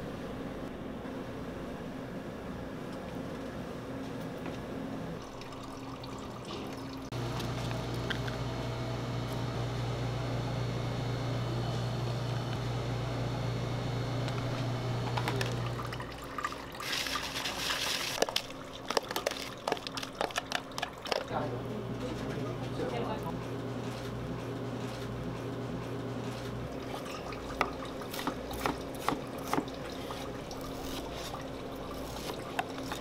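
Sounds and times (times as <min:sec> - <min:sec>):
appliance hum: 0:00.0 - 0:33.0.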